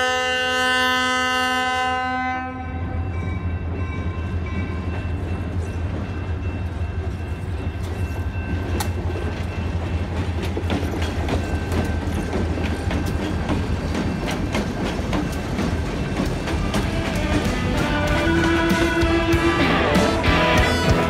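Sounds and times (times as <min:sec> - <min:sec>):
diesel locomotive rumble: 0:02.8 - 0:21.0
train wheels clicking over rail joints: 0:03.7 - 0:20.6.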